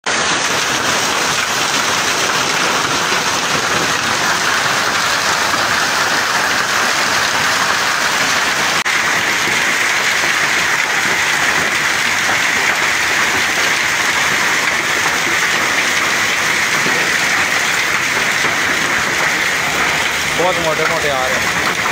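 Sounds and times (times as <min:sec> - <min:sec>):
hail and rain clattering: 0:00.0 - 0:21.9.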